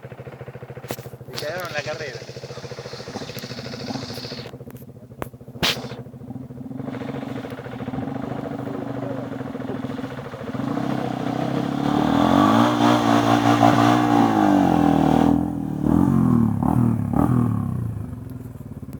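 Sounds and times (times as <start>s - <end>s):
dirt bike engine revving: 0.8s - 4.7s, 5.3s - 18.1s.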